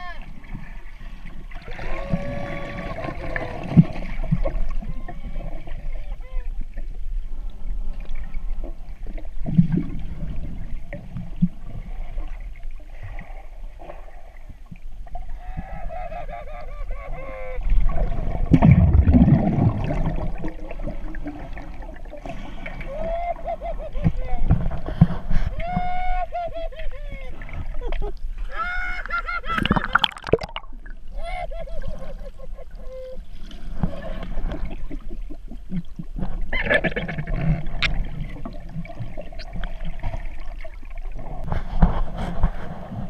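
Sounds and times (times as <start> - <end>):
underwater rumble: 0.0 - 28.6, 29.2 - 43.0.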